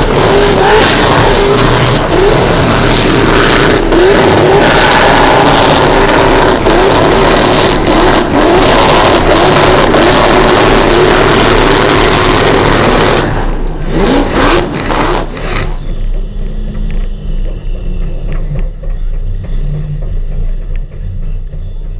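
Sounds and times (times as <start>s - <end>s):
engine revving high: 0.0s - 18.8s.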